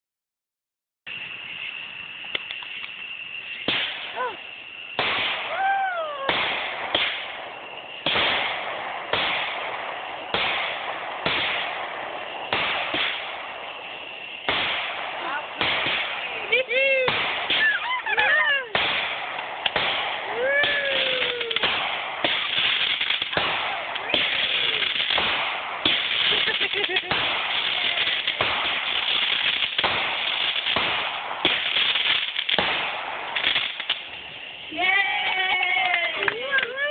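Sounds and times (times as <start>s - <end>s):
firework shells bursting: 2.0s - 36.9s.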